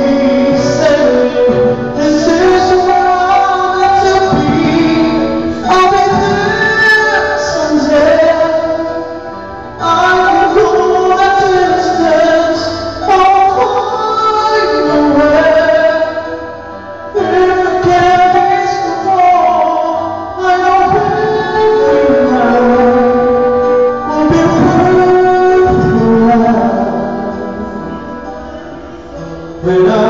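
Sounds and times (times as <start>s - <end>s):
man singing a ballad: 0.0s - 30.0s.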